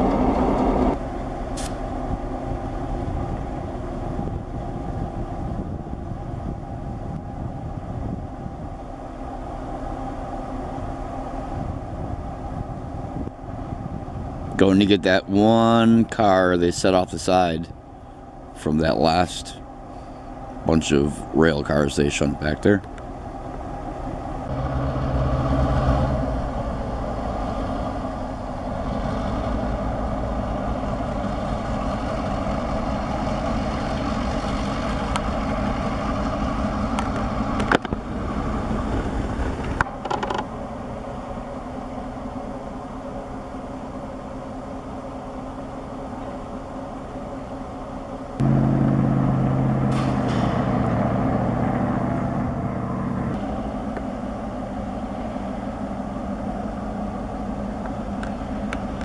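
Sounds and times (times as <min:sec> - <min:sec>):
diesel locomotive engine: 0:00.0 - 0:59.0
rolling freight cars: 0:00.0 - 0:59.0.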